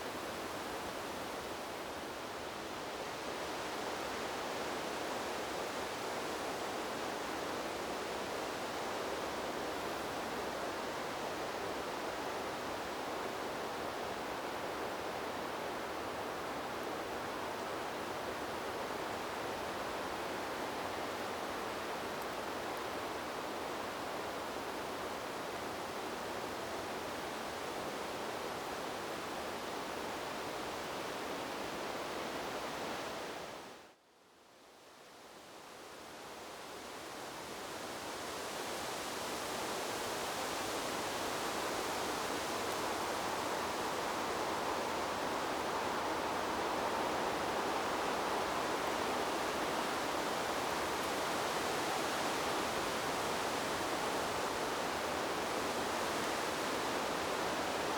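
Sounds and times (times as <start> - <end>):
wind blowing through trees: 0.0 - 57.9.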